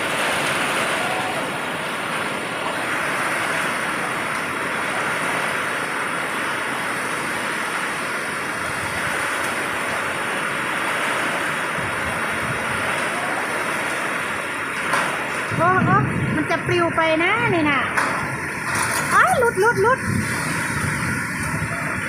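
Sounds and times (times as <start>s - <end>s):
heavy rain on metal roof: 0.0s - 22.0s.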